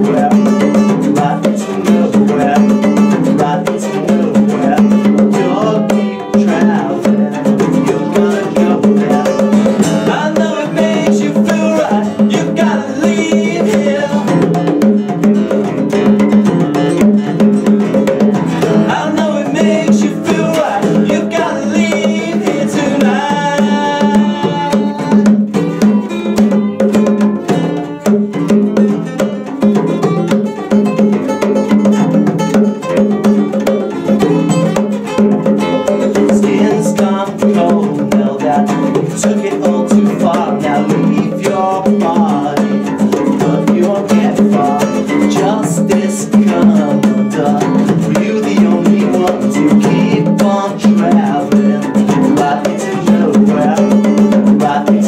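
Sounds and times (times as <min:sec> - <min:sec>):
man singing: 0:00.0 - 0:26.2, 0:33.6 - 0:55.0
acoustic bass guitar: 0:00.0 - 0:55.0
acoustic guitar: 0:00.0 - 0:55.0
bongos: 0:00.0 - 0:55.0.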